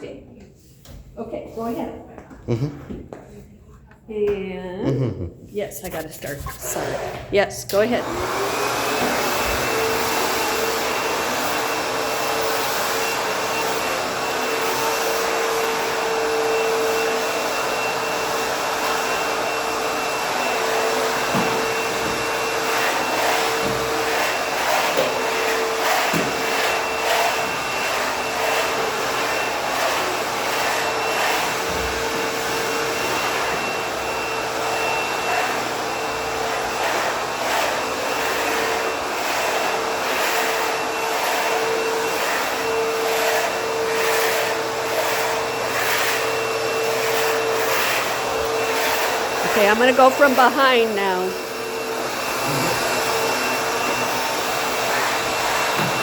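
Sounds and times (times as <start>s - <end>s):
backpack vacuum running: 6.7s - 56.0s.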